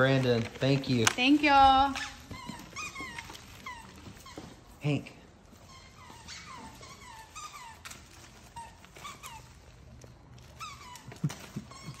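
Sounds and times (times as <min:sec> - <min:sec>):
dog whining: 0:01.7 - 0:12.0.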